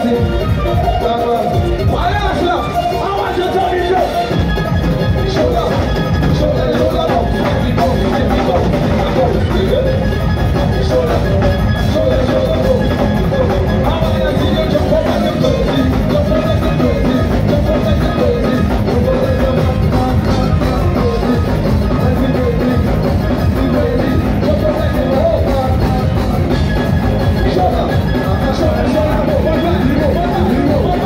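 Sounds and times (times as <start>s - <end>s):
loud band music with singer: 0.0s - 31.0s.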